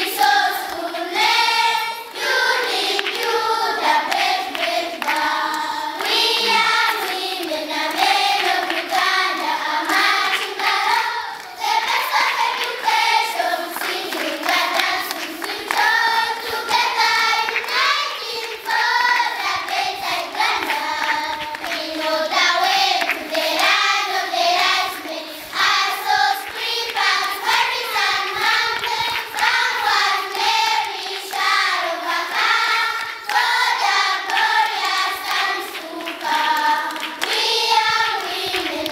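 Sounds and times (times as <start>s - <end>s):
children singing together: 0.0s - 38.9s
hand clapping: 0.0s - 38.9s.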